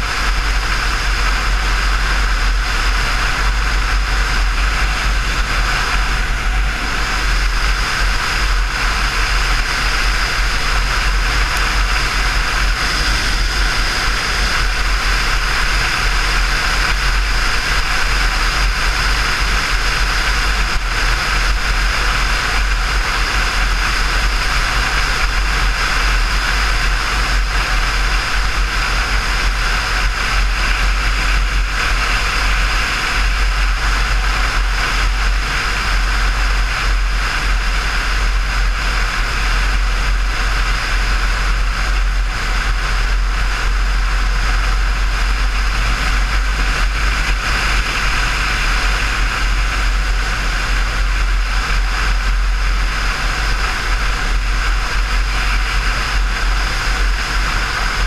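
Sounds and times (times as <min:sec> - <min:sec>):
motorcycle engine running steadily: 0:00.0 - 0:58.0
wind rush on microphone: 0:00.0 - 0:58.0.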